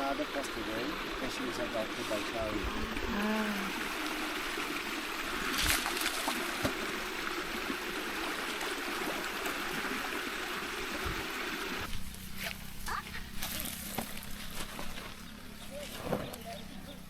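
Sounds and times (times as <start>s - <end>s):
stream water flowing: 0.0s - 15.5s.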